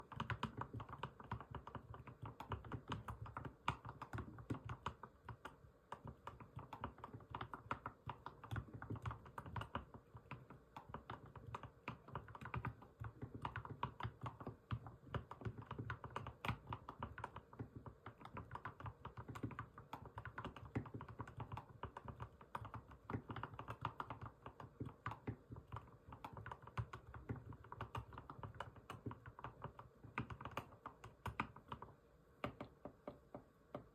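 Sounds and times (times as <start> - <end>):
mechanical keyboard typing: 0.0 - 33.9.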